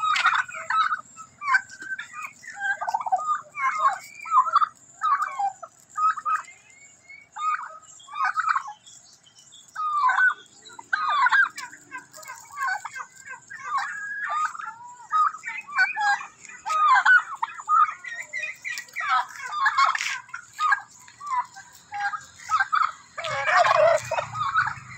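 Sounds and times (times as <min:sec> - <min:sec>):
turkeys gobbling: 0:00.0 - 0:24.9.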